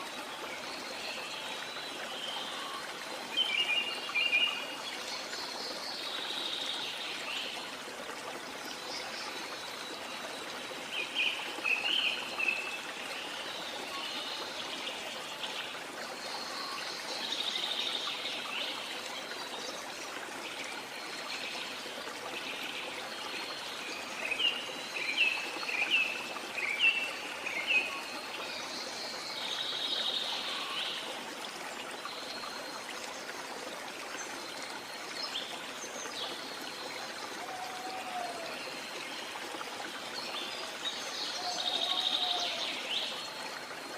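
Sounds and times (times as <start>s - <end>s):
water rushing: 0.0s - 43.9s.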